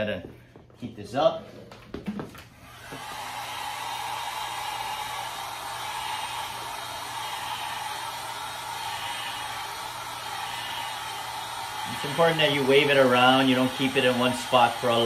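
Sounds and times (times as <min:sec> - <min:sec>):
heat gun blowing hiss: 0:02.7 - 0:15.0.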